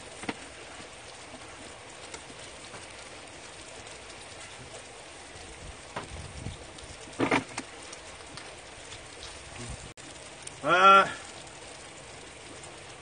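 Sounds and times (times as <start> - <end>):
rain patter: 0.0 - 13.0.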